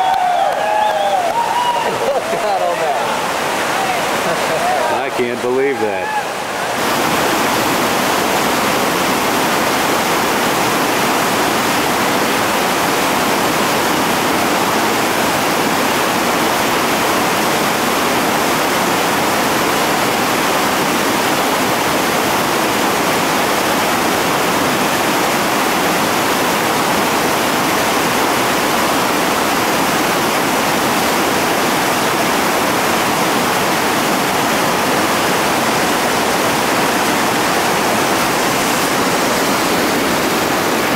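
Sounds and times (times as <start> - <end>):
whitewater rapids rushing: 0.0 - 40.9.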